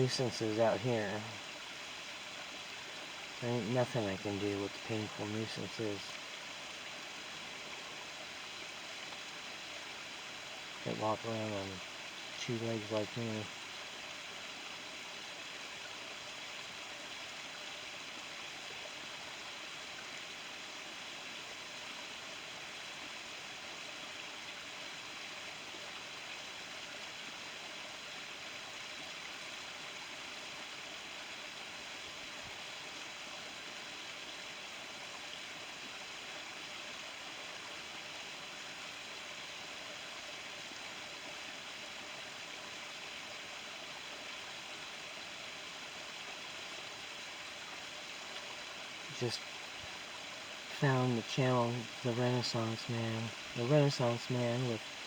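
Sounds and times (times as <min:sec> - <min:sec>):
outdoor background hiss: 0:00.0 - 0:55.0.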